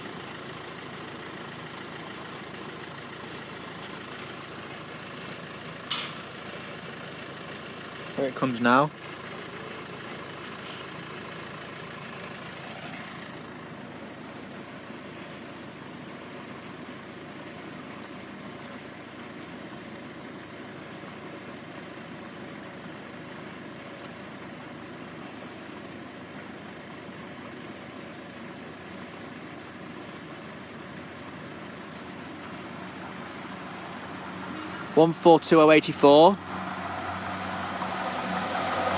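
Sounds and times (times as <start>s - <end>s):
diesel railbus engine running: 0.0s - 38.9s.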